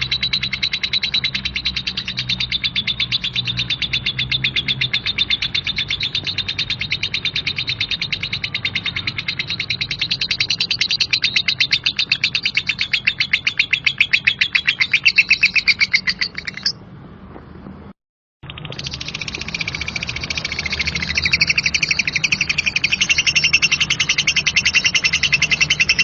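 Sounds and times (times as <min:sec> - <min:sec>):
lovebird harsh chatter: 0:00.0 - 0:16.8, 0:18.5 - 0:26.0.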